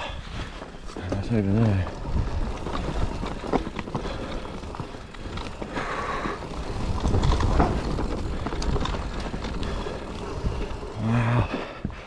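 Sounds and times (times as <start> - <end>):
bike tyres on dirt: 0.0 - 12.0
bike clicks and rattles: 0.4 - 12.0.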